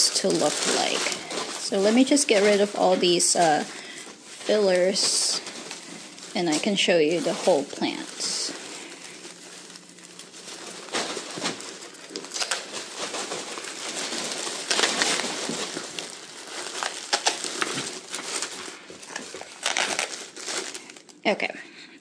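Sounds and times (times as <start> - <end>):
shredded paper rustling: 0.0 - 21.2
plastic bag crinkling: 0.0 - 21.6.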